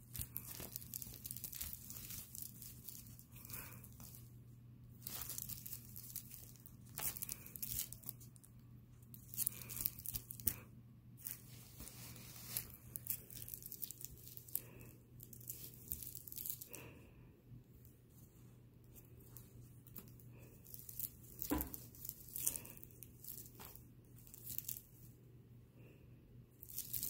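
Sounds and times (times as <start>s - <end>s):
fabric rustling and crinkling: 0.0s - 17.0s, 17.8s - 25.2s, 26.6s - 27.0s.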